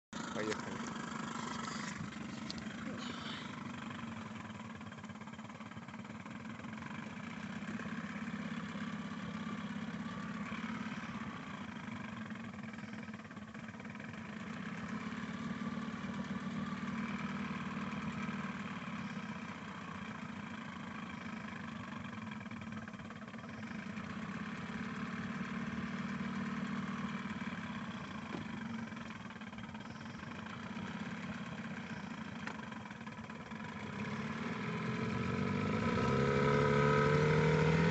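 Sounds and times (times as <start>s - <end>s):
outboard motor running: 0.1s - 37.9s.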